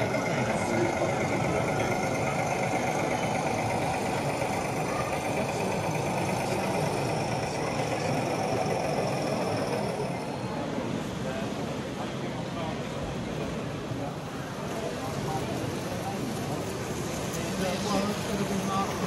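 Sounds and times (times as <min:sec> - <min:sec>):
engine-like running noise: 0:00.0 - 0:19.0.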